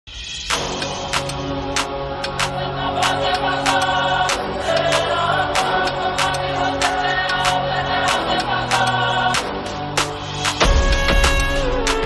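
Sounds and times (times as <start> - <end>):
background music with steady beat: 0.1 - 12.0.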